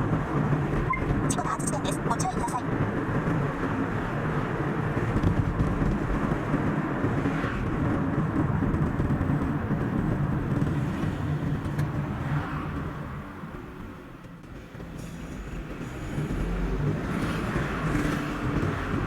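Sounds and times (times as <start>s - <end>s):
car road and tyre noise: 0.0s - 19.0s.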